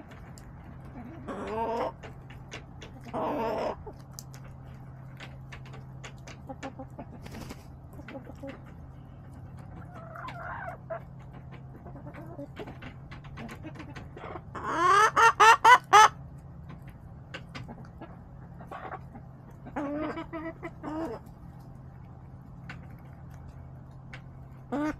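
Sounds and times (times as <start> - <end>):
hens clucking: 0.0 - 24.9.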